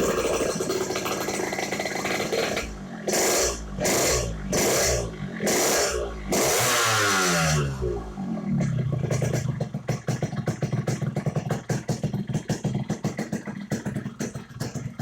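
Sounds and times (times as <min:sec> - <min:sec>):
exhaust crackle: 0:00.0 - 0:15.0
motorcycle engine idling raspy: 0:00.0 - 0:15.0.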